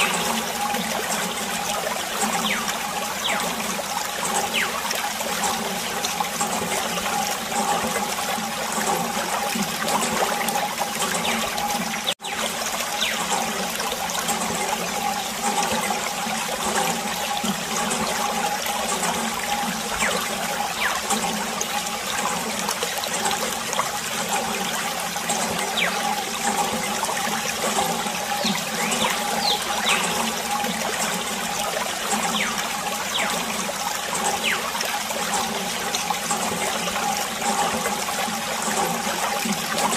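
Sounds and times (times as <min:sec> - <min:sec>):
water from hose trickling: 0:00.0 - 0:39.9.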